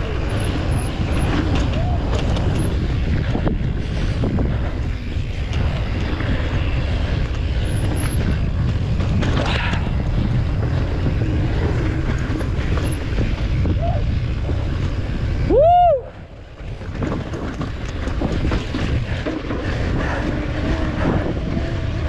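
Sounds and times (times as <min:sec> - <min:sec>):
bike knocks and rattles: 0:00.0 - 0:15.4, 0:16.4 - 0:22.0
bike tyres rolling over rock: 0:00.0 - 0:22.0
wind buffeting microphone: 0:00.0 - 0:22.0.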